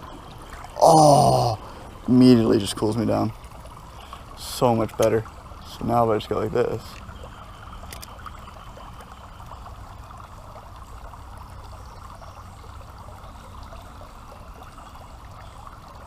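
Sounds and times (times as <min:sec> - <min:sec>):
creek water trickling: 0:00.0 - 0:16.0.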